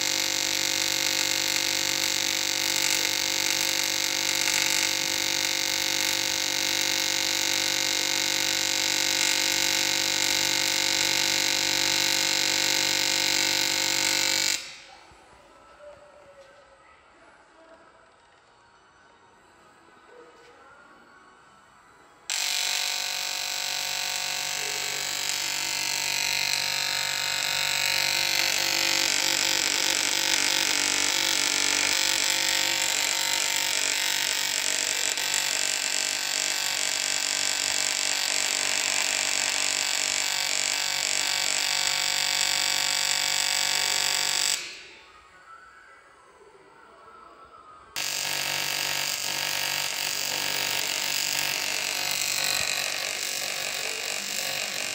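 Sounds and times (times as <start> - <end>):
welding arc buzzing hiss: 0.0 - 15.0, 22.3 - 45.1, 48.0 - 54.9.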